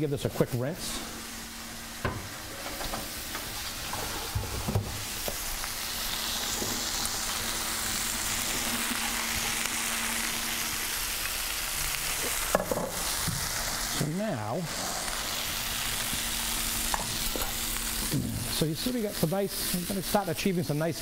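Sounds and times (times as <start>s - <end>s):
meat sizzling in skillet: 0.8s - 21.0s.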